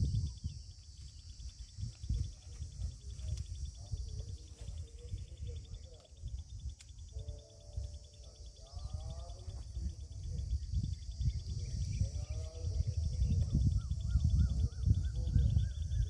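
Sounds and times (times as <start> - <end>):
insects chirping: 0.0 - 16.0
bird calls: 0.1 - 16.0.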